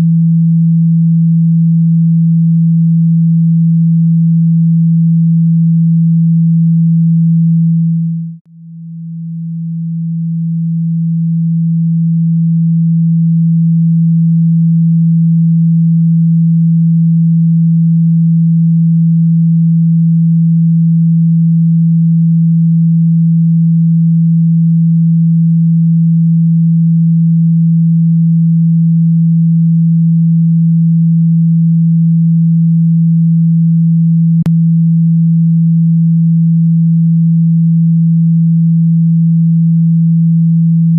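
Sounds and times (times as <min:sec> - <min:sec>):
low pure tone from phone speaker: 0:00.0 - 0:40.9.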